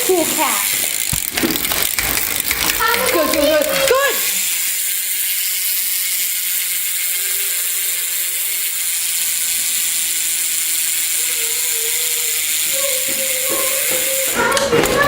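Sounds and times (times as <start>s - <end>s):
bike hub freewheeling buzz: 0.0s - 15.0s.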